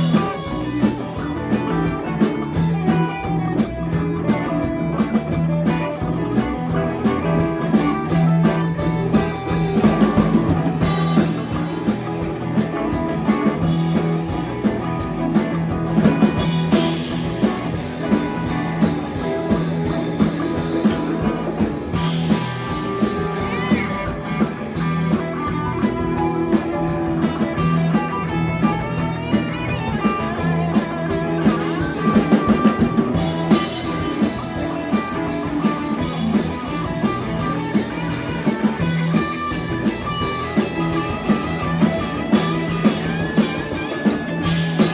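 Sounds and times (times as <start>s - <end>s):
drum kit with steady beat: 0.0s - 44.9s
electric guitar: 0.0s - 44.9s.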